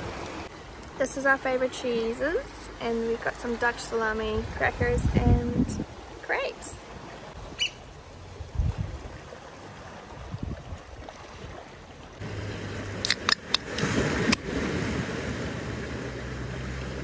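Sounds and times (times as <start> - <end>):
waves: 0.0 - 17.0
wind: 0.0 - 17.0.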